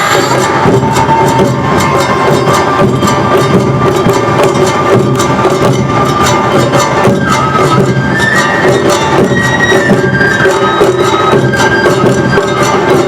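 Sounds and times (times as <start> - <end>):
drums and hand gongs: 0.0 - 13.0
sustained melodic instruments: 0.0 - 13.0.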